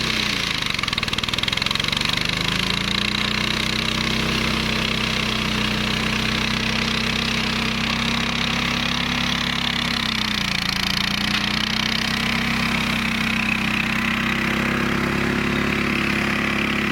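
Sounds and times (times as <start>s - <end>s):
flail mower engine running: 0.0s - 16.9s.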